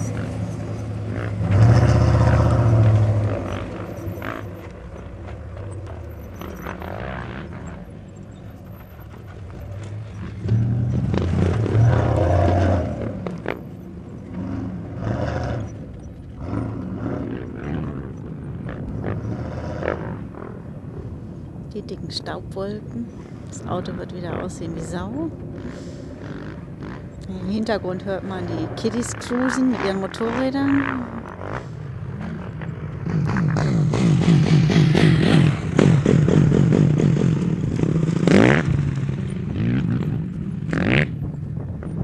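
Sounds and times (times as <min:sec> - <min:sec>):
vehicle engine revving: 0:00.0 - 0:20.7, 0:23.8 - 0:41.4.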